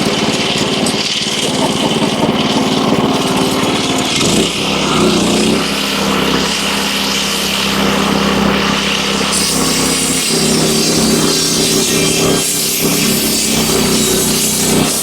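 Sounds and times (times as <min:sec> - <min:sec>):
small gas engine running: 0:00.0 - 0:15.0.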